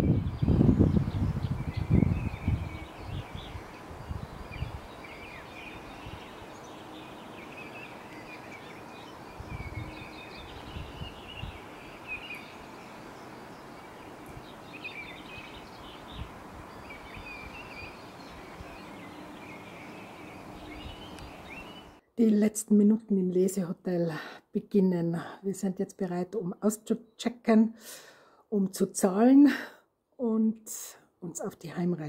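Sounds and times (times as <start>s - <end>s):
songbirds chirping: 0.0s - 27.6s
outdoor background hiss: 0.0s - 32.0s.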